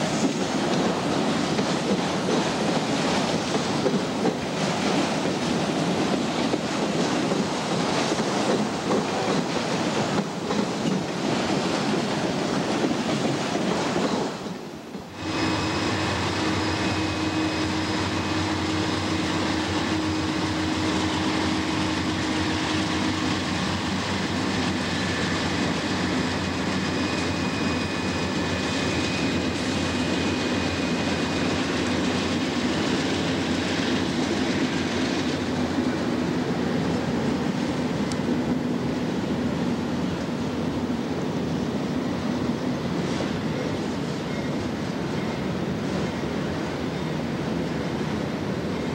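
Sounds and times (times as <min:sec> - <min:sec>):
freight train rumble and clatter: 0:00.0 - 0:48.9.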